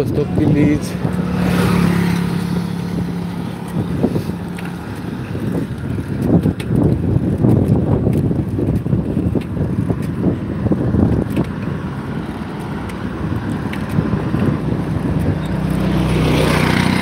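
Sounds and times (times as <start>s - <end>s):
bicycle clicks and rattles: 0.0s - 17.0s
wind buffeting microphone: 0.0s - 17.0s.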